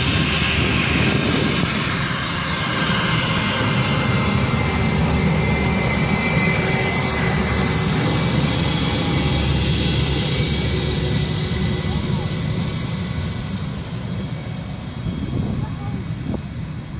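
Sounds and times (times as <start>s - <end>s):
jet engines taxiing: 0.0s - 16.9s.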